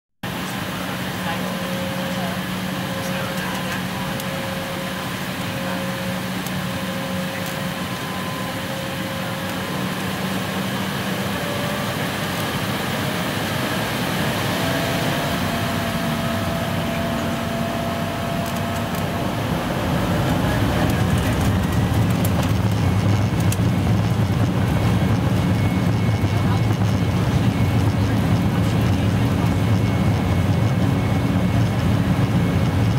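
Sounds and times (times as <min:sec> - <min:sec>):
jet engine drone in cabin: 0:00.2 - 0:32.9.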